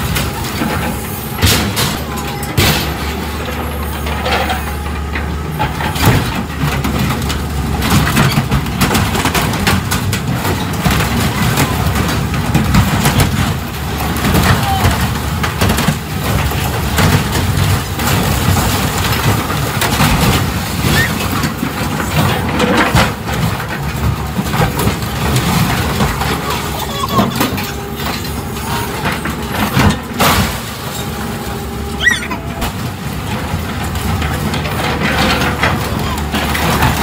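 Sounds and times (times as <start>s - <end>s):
heavy diesel machinery running: 0.0s - 37.0s.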